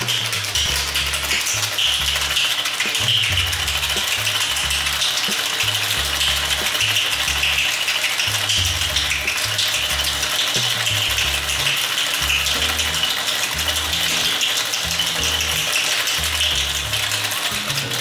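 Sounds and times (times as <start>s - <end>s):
background music with bass: 0.0s - 18.0s
ice rattling in cocktail shaker: 0.0s - 18.0s.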